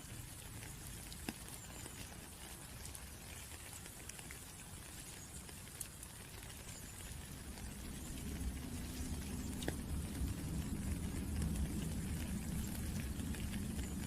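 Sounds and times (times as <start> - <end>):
raindrops ticking on a surface: 0.0 - 14.0
steady rain: 0.0 - 14.0.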